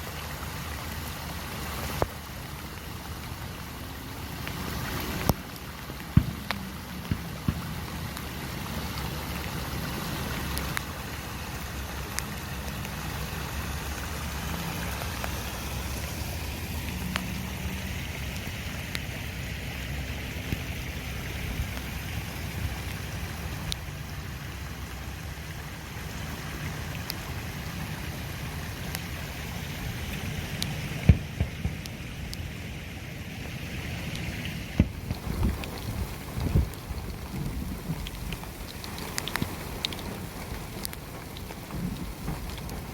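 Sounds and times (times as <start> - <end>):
heavy rain and running water: 0.0 - 42.9.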